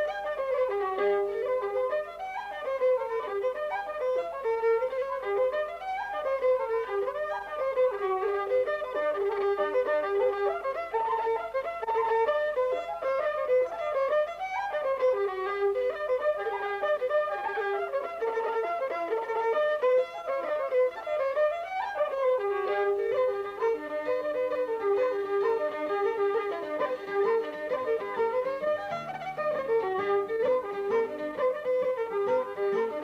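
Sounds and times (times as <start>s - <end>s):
quick violin melody: 0.0s - 33.0s.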